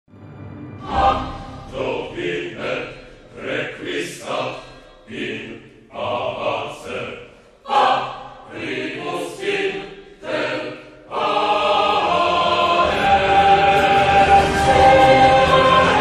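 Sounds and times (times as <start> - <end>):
dramatic choral film music: 0.1 - 16.0.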